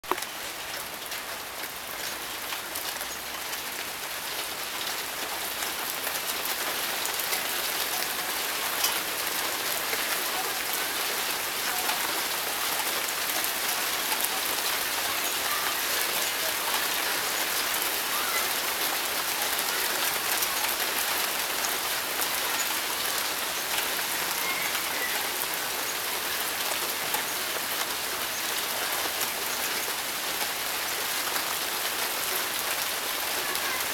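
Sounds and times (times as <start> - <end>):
rain on concrete and grass: 0.0 - 33.9.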